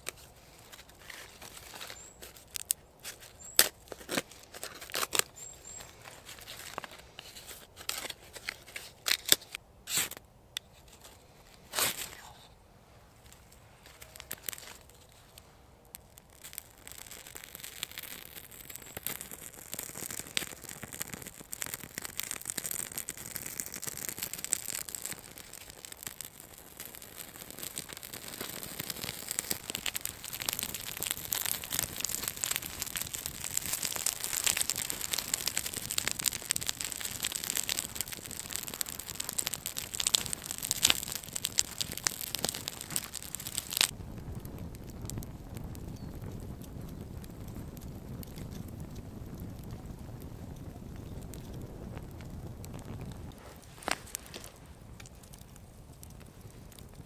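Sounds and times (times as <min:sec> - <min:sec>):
dry crackling and crinkling: 0:00.0 - 0:57.0.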